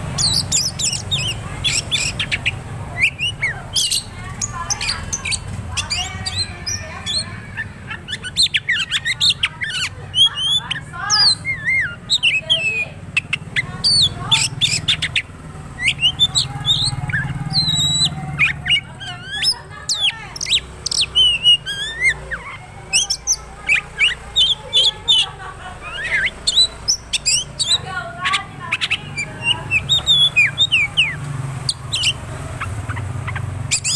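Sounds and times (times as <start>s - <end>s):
bird singing varied song: 0.0s - 33.9s.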